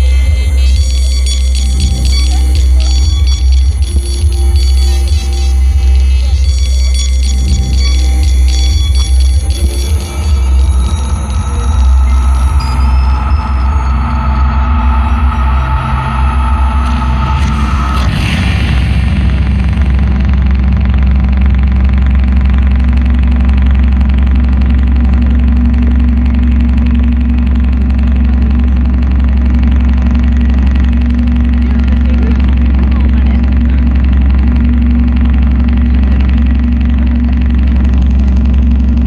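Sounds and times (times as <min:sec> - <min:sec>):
deep rumbling drone over loudspeakers: 0:00.0 - 0:39.0.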